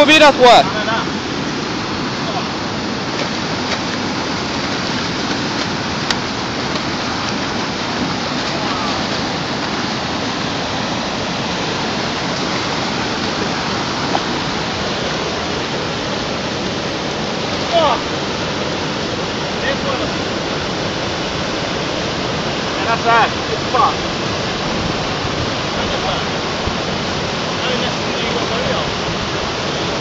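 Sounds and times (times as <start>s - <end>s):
river water rushing over rock: 0.0s - 30.0s.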